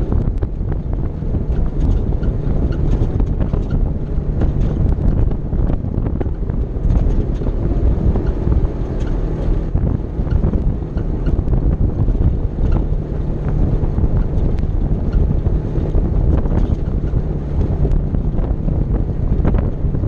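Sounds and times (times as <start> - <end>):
gravel ticks: 0.0 - 20.0
vehicle engine running: 0.0 - 20.0
wind buffeting microphone: 0.0 - 20.0.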